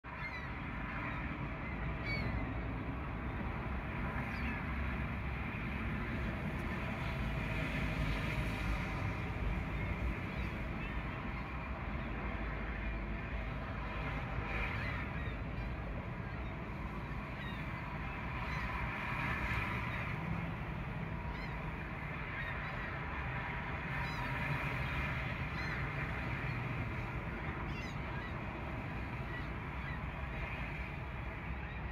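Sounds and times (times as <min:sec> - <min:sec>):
wind rumble on microphone: 0:00.0 - 0:31.9
faint gull calls: 0:00.1 - 0:05.0, 0:08.7 - 0:20.4, 0:21.1 - 0:31.9.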